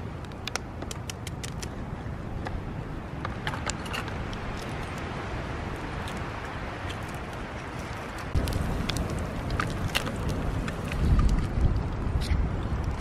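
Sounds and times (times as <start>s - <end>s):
steady rushing noise: 0.0s - 13.0s
wood fire crackling and popping: 0.2s - 1.8s, 3.2s - 13.0s.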